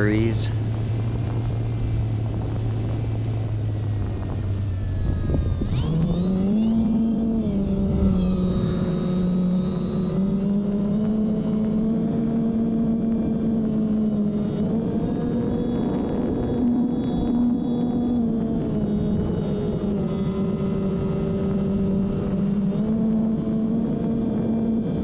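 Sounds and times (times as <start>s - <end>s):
model plane motor and propeller droning: 0.0s - 25.0s.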